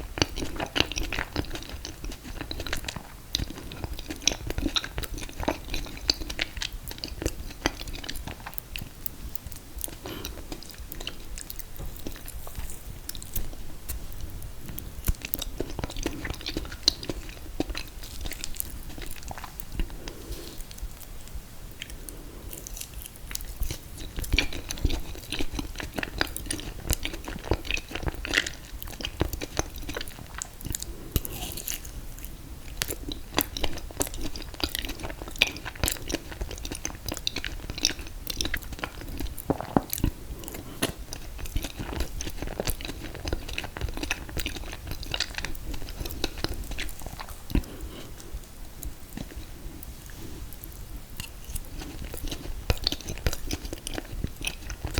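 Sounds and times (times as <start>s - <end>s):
person chewing: 0.0s - 54.9s.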